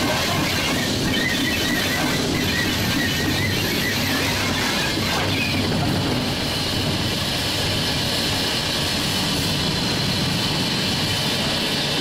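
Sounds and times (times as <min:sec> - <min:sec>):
steam locomotive rumble and hiss: 0:00.0 - 0:12.0.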